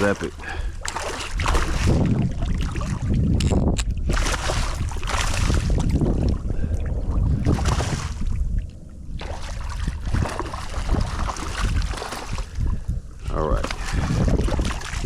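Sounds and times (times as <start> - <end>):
water splashing around kayak: 0.0 - 15.0
wind buffeting microphone: 0.0 - 15.0.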